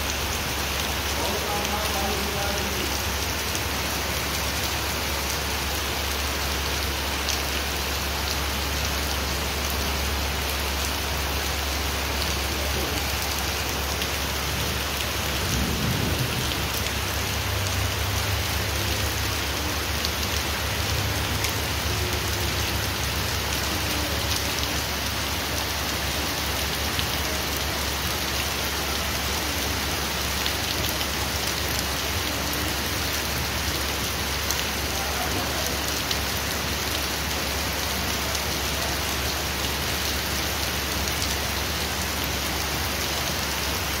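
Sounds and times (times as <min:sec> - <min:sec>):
heavy rain on pavement: 0:00.0 - 0:44.0.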